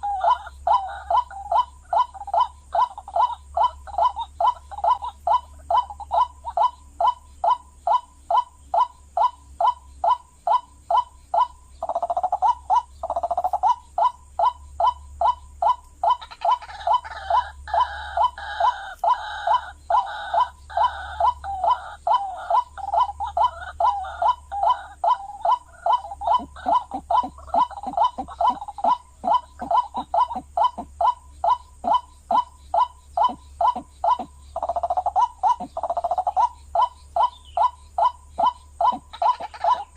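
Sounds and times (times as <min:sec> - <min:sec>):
higher-pitched bird voice: 0:00.0 - 0:39.9
waterhen calls: 0:00.0 - 0:39.9.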